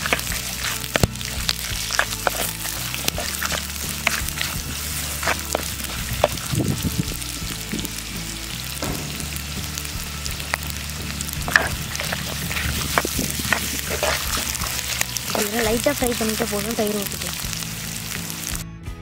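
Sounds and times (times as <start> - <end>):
vegetables sizzling in hot oil: 0.0 - 18.6.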